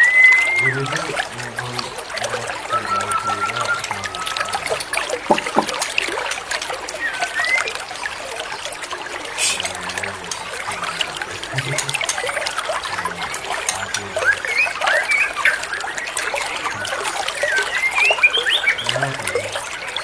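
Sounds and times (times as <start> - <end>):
songbird chirps: 0.0 - 8.6, 9.3 - 20.0
water trickling: 0.0 - 20.0.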